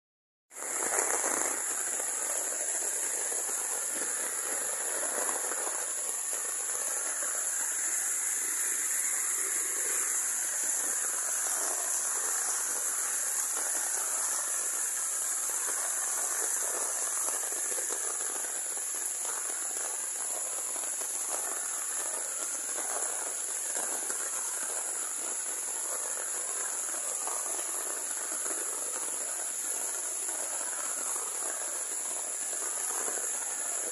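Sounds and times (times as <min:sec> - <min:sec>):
rain pattering on umbrella: 0:00.5 - 0:33.9
high-pitched insect chorus: 0:00.6 - 0:33.9.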